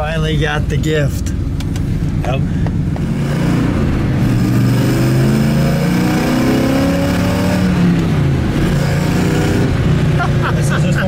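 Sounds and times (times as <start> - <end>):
car engine heard from cabin: 0.0 - 11.0.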